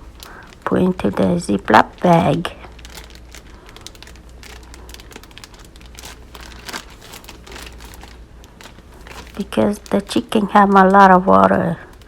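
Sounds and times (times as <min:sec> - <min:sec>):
plastic freezer bag crinkling: 0:00.0 - 0:12.0.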